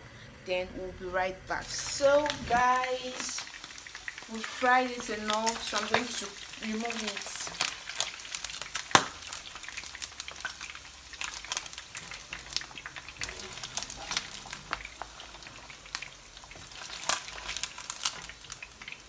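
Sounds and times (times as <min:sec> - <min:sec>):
chicken sizzling in oil: 0:01.6 - 0:19.0
oil crackling and popping: 0:01.6 - 0:19.0.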